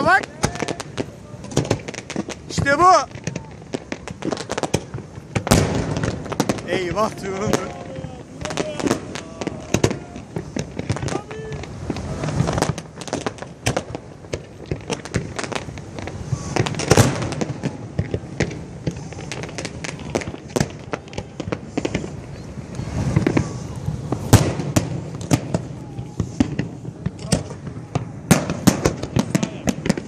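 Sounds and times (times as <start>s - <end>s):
fireworks bangs and crackles: 0.0s - 30.0s
fireworks low booms: 0.0s - 30.0s.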